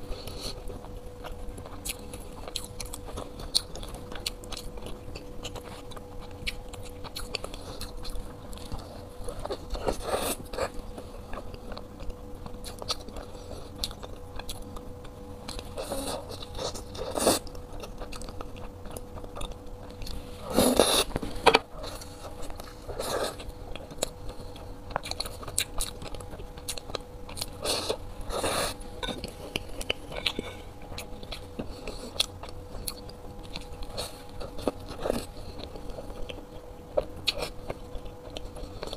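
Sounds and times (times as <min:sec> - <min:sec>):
biting and chewing buns: 0:00.0 - 0:38.9
faint steady hum: 0:00.0 - 0:38.9.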